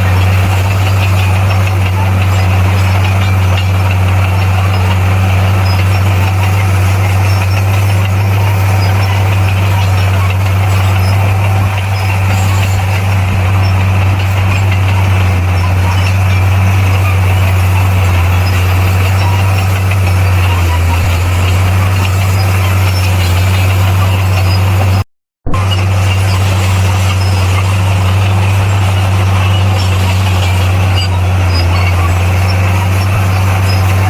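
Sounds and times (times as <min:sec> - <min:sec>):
heavy diesel engine drone: 0:00.0 - 0:34.0.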